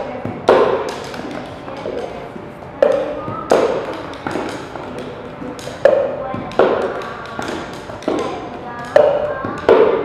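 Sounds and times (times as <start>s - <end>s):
plastic cups knocking on floor: 0.3s - 2.1s, 2.8s - 10.0s.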